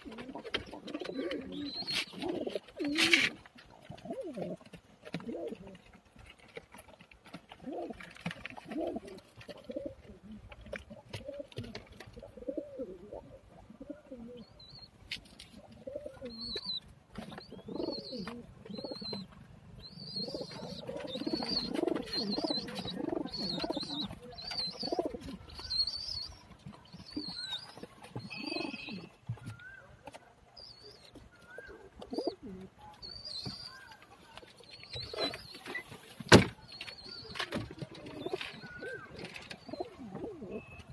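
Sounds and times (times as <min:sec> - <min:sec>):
pigeons cooing: 0:00.0 - 0:06.0, 0:07.3 - 0:14.7, 0:15.5 - 0:30.2, 0:30.8 - 0:32.7, 0:34.8 - 0:40.9.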